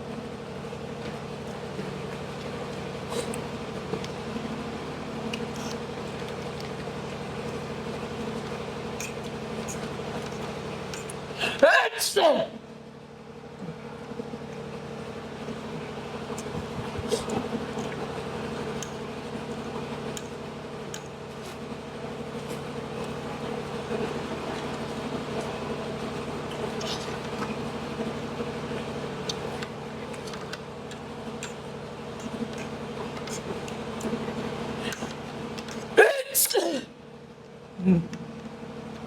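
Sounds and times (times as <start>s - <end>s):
mechanical hum with tones: 0.0s - 39.0s.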